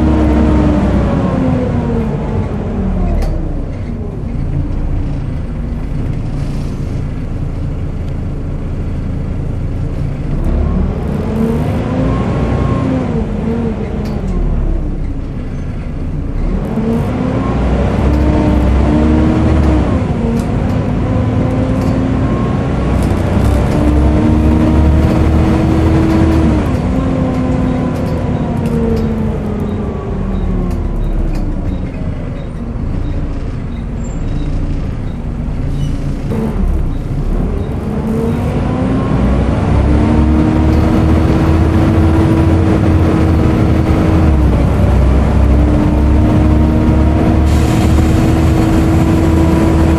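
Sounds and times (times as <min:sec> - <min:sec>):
bus engine whine: 0:00.0 - 0:49.9.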